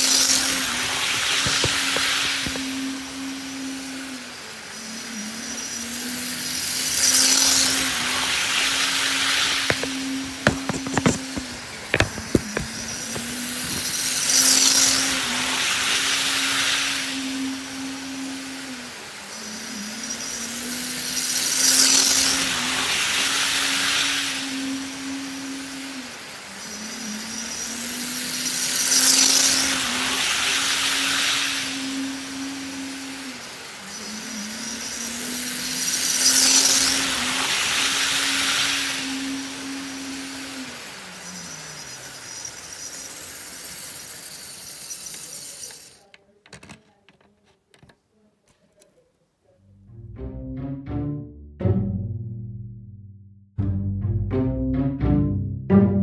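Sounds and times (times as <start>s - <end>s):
model train motor whine: 0.0s - 47.6s
model train wheels on rail: 0.0s - 49.0s.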